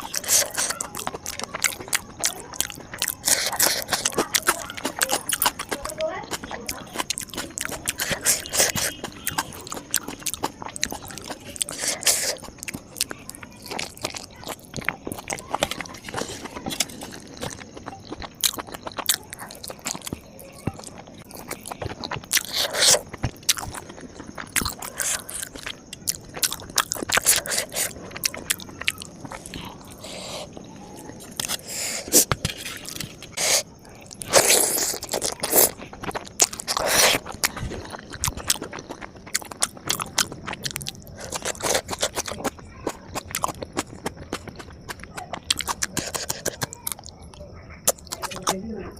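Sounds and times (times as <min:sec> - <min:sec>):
crunchy chewing: 0:00.0 - 0:48.9.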